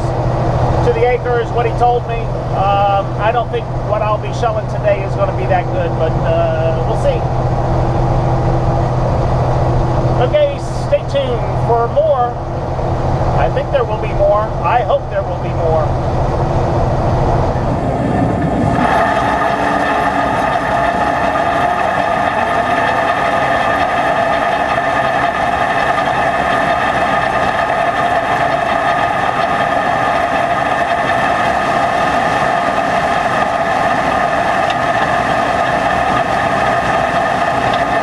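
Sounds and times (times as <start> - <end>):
combine harvester drone: 0.0 - 38.0
high machine whine: 0.0 - 38.0.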